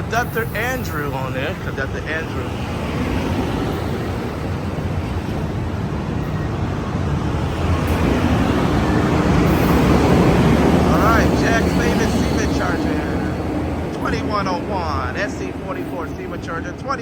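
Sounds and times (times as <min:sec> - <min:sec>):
passenger train passing: 0:00.0 - 0:17.0
wheel-on-rail noise: 0:00.0 - 0:17.0.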